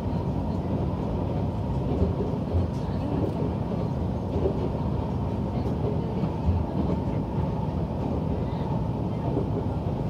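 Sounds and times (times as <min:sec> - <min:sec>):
railcar engine and wheels running: 0:00.0 - 0:10.0.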